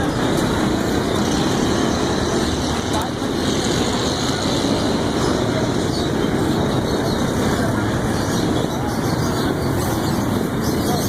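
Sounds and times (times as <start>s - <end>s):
people's voices: 0.0s - 11.0s
street traffic noise: 0.0s - 11.0s.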